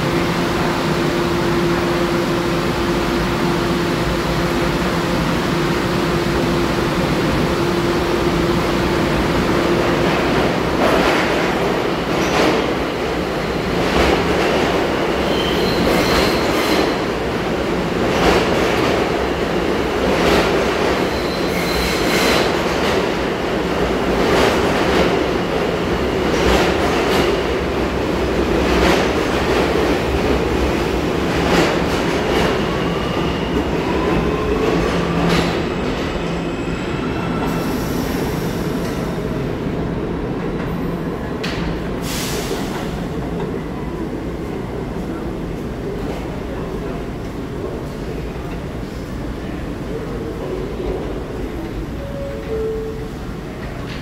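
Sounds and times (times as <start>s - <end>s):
subway train rumble: 0.0s - 54.0s.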